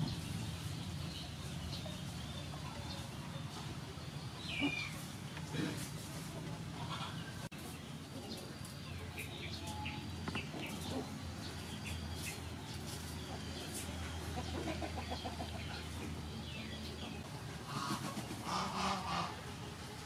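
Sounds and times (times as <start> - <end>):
small birds chirping: 0.0 - 19.9
chickens clucking: 0.0 - 20.0.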